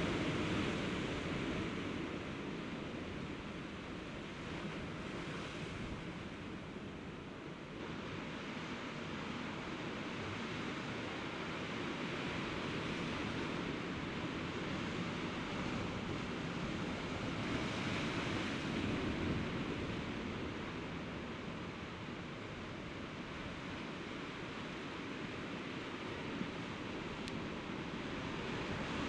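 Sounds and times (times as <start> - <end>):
sea surf on rocky shore: 0.0 - 29.0.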